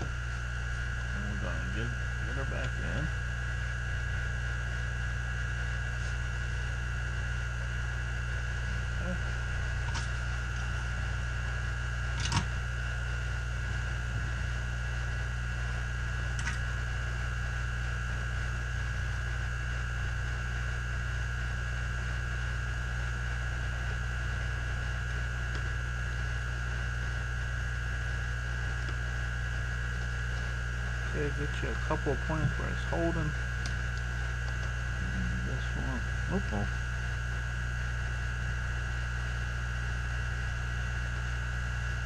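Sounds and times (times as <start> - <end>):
fan hum with high whine: 0.0 - 42.0.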